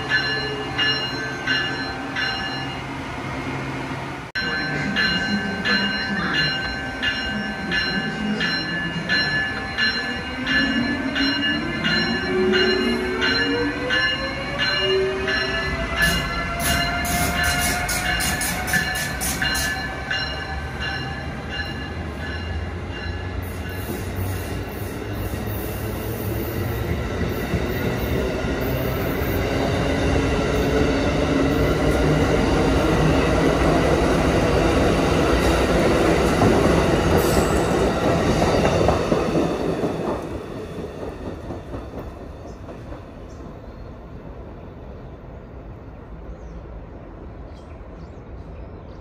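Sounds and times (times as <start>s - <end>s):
train wheels rumbling on rails: 0.0s - 44.6s.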